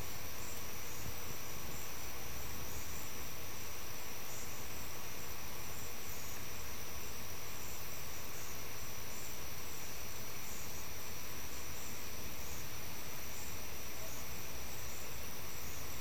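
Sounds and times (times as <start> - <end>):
insect high-pitched trill: 0.0 - 16.0
low hiss: 0.0 - 16.0
pulsed insect calls: 0.0 - 16.0.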